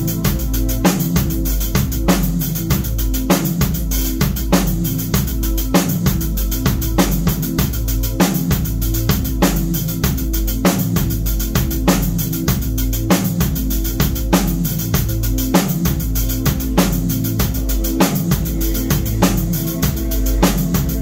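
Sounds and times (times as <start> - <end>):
backing music with held low notes: 0.0 - 21.0
drum kit playing a steady beat: 0.0 - 21.0.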